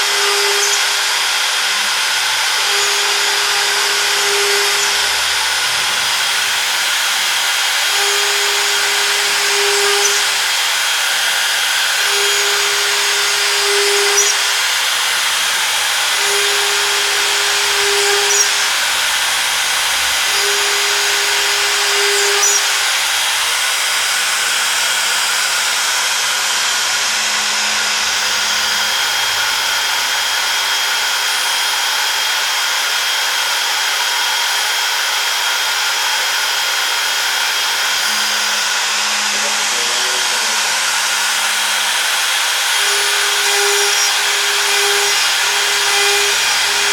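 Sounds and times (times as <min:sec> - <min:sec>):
machine axes moving tone: 0:00.0 - 0:32.3, 0:36.0 - 0:46.9
cnc router spindle whine: 0:00.0 - 0:46.9.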